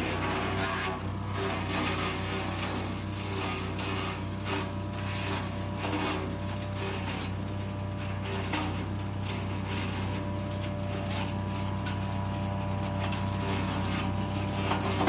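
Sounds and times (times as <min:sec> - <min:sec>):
branches being shredded: 0:00.0 - 0:15.0
wood chipper engine running: 0:00.0 - 0:15.0.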